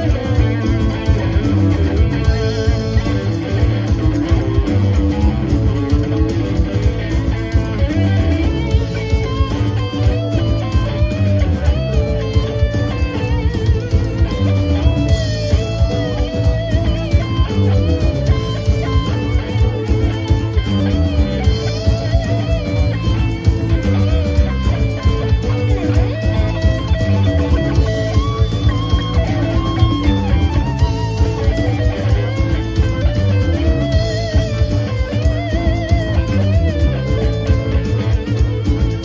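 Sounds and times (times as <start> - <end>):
bass guitar: 0.0 - 39.0
electric guitar with bent notes: 0.0 - 39.0
steady drum beat: 0.0 - 39.0.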